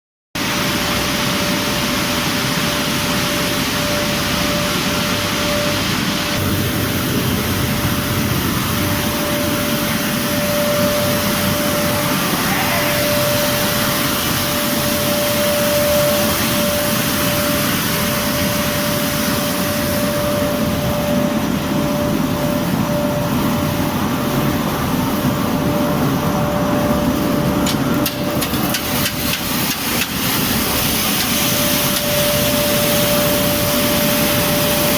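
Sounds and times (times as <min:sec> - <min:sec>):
milling machinery running: 0:00.4 - 0:34.9.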